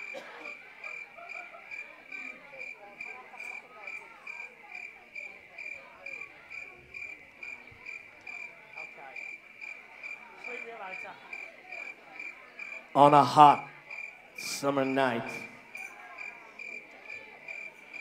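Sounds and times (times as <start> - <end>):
audience murmur: 0.0 - 18.0
recorded cricket chirping: 0.0 - 18.0.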